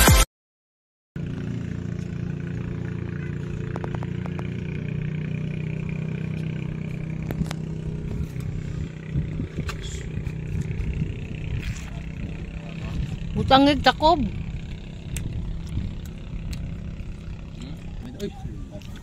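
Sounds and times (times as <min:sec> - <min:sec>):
engine humming: 0:01.2 - 0:19.0.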